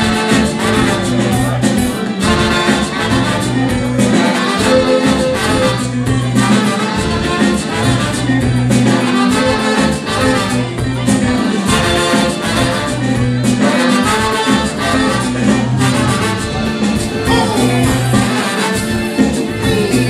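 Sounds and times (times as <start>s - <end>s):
horn section: 0.0s - 20.0s
live afrobeat band playing: 0.0s - 20.0s.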